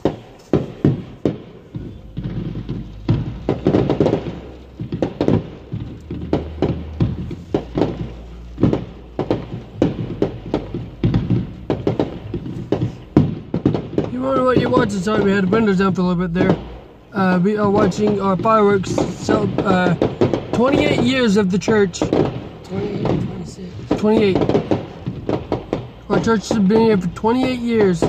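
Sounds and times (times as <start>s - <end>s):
muffled fireworks booms: 0.0s - 28.0s.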